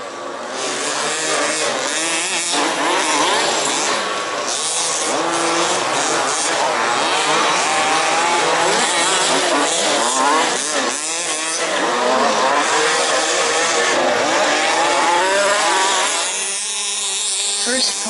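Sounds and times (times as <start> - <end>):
rc car engines buzzing: 0.0 - 18.0.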